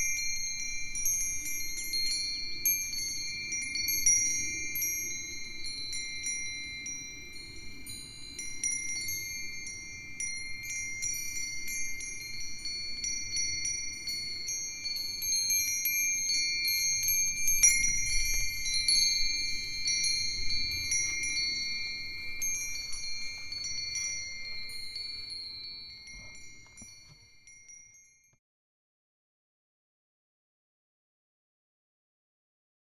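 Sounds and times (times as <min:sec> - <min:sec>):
metal wind chimes ringing: 0:00.0 - 0:28.3.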